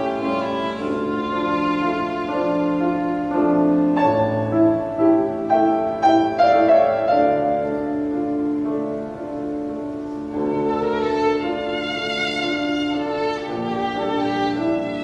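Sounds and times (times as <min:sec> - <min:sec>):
bowed strings: 0:00.0 - 0:08.9, 0:09.8 - 0:15.0
piano notes: 0:00.0 - 0:15.0.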